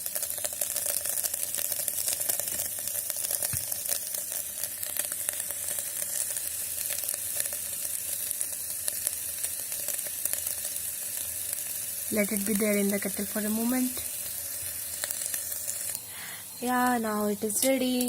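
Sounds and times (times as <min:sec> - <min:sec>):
egg sizzling and crackling: 0:00.0 - 0:18.0.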